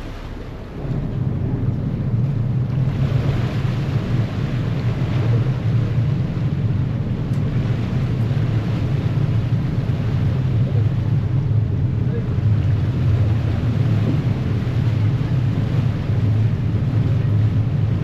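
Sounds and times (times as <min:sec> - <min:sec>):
propeller churning water: 0:00.0 - 0:18.0.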